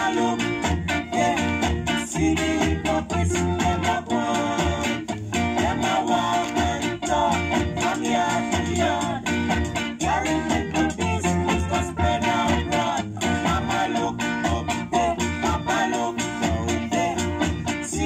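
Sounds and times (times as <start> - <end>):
bass line: 0.0 - 18.0
guitar: 0.0 - 18.0
person singing: 0.0 - 18.0
reggae record playing: 0.0 - 18.0.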